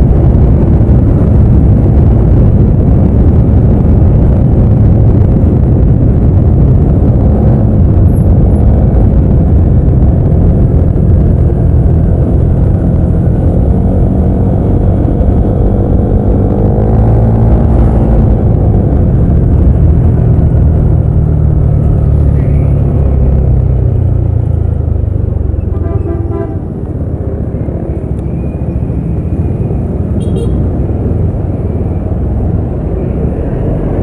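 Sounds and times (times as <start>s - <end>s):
road noise rumble: 0.0s - 34.0s.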